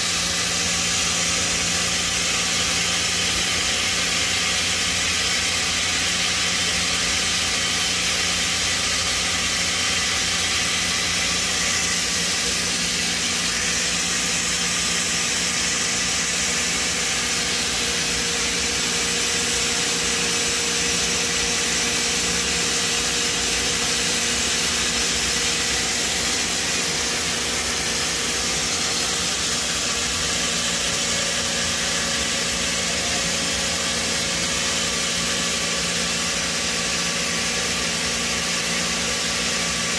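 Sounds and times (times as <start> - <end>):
lathe humming and hissing: 0.0 - 39.9.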